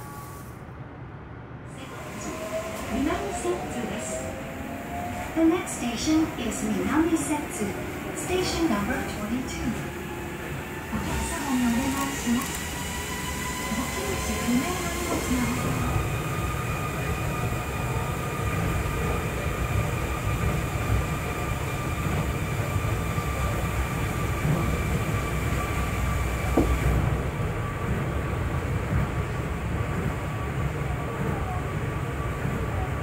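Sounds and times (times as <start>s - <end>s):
train low rumble: 0.0s - 33.0s.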